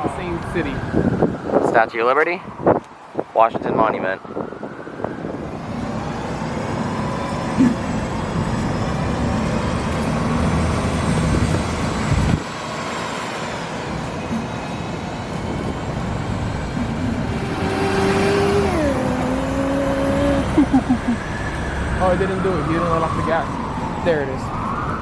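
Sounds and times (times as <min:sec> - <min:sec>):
city street traffic: 0:00.0 - 0:25.0
passing vehicle whine: 0:02.4 - 0:25.0.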